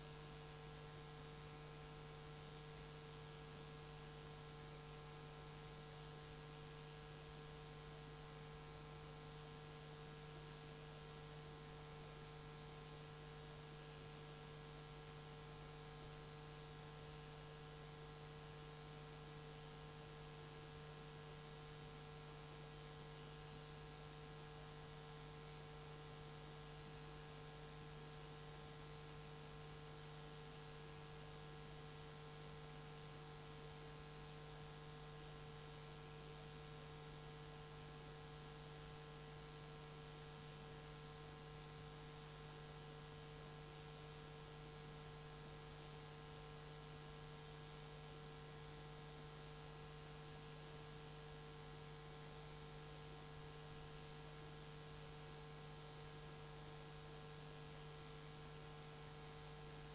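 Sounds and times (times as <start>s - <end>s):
electrical hum with hiss: 0.0s - 59.9s.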